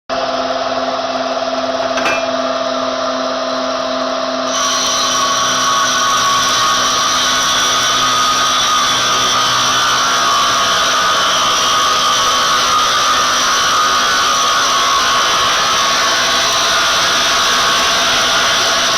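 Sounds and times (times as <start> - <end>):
sawmill saw whining: 0.9 - 18.9.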